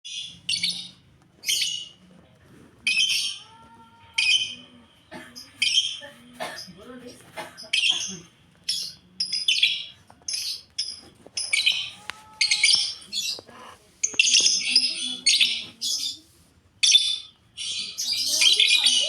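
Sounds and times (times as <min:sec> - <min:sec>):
lovebirds chirping: 0:00.1 - 0:02.2, 0:02.8 - 0:19.0.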